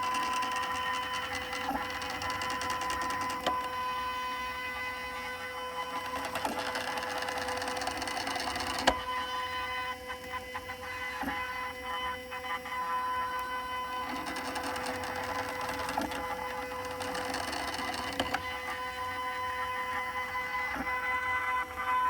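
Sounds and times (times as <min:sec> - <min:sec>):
stepper motor whine: 0:00.0 - 0:22.0.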